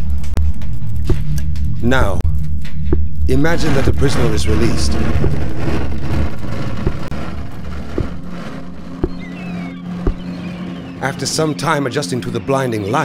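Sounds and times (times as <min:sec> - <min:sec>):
loud rumbling: 0:00.0 - 0:11.0.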